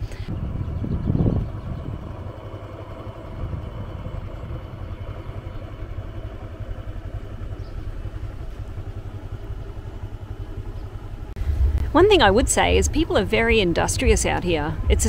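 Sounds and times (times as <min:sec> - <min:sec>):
motorbike engine at low speed: 0:00.0 - 0:15.0.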